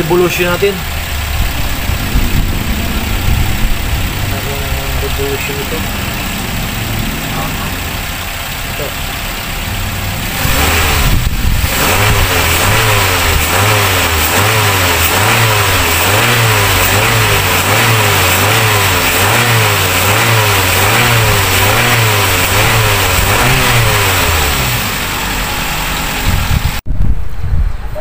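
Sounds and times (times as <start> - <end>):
car engine revving in blips: 0.0 - 26.8.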